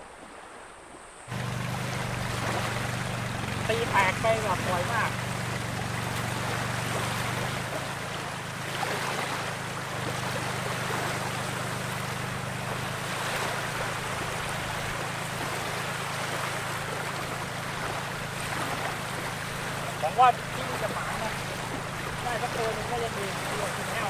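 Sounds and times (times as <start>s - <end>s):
small waves washing ashore: 0.0s - 24.0s
wind: 0.0s - 24.0s
steady low hum: 1.3s - 24.0s.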